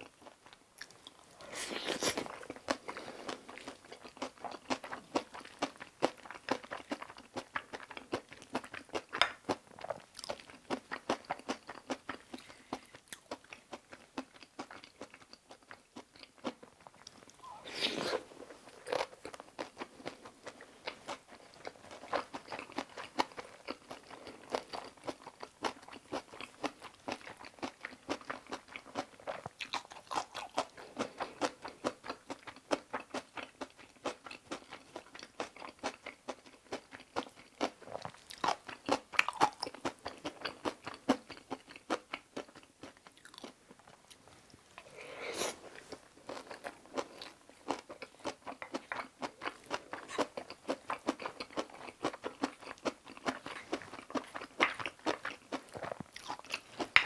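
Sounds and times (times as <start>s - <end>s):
wet chewing and crunching: 0.0s - 44.9s, 45.7s - 57.0s.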